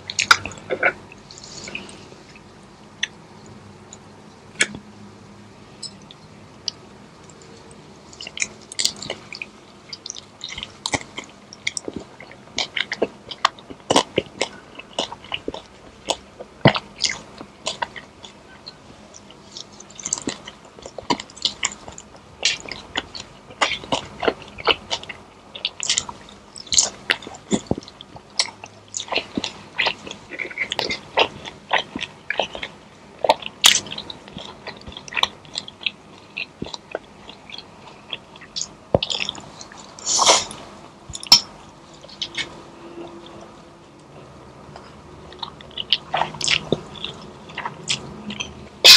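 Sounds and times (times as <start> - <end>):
chewing crunchy food: 0.0 - 3.2, 5.8 - 43.5, 44.7 - 48.9.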